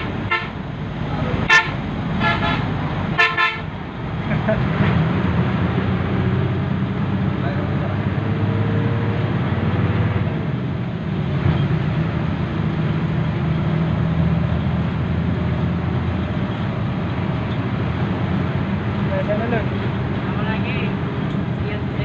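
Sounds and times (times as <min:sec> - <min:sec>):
bus engine and road drone: 0:00.0 - 0:22.0.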